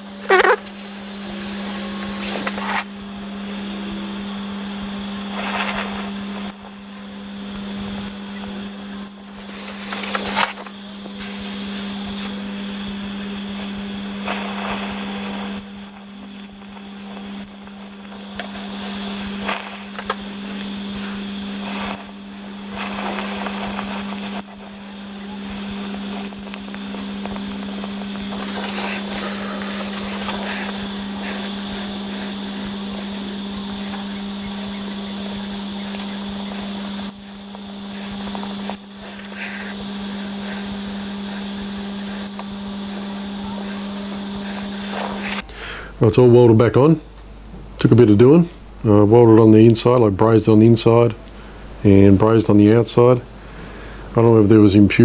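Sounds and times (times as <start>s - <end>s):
welding equipment humming and hissing: 0.0s - 55.0s.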